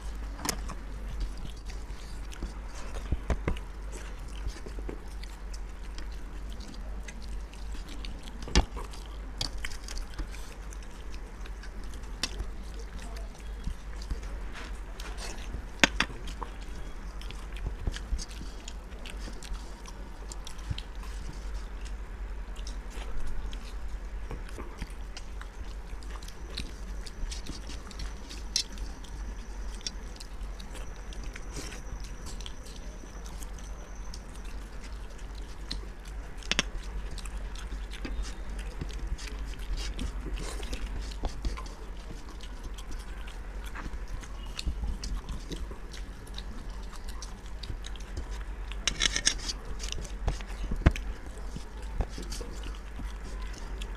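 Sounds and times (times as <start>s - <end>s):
people chewing: 0.0s - 53.9s
steady low hum: 0.0s - 53.9s.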